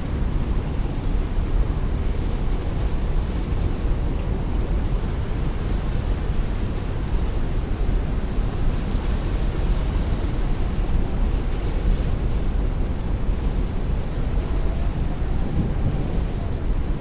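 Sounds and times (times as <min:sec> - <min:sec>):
heavy rain beating on a window: 0:00.2 - 0:17.0.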